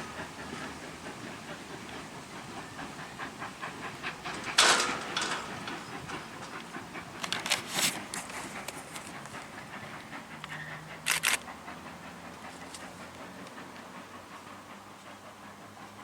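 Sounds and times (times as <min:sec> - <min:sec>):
steam locomotive hissing: 0:00.0 - 0:16.0.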